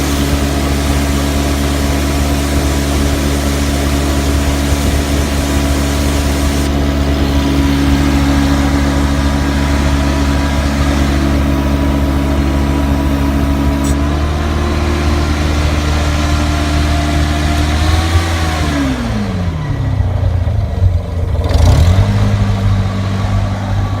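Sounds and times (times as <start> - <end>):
carpet cleaning machine running: 0.0 - 24.0.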